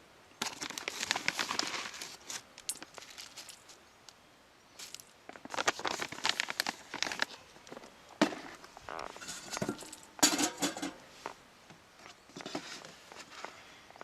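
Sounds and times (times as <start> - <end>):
objects being handled: 0.4 - 3.8, 4.8 - 11.4, 12.0 - 13.6.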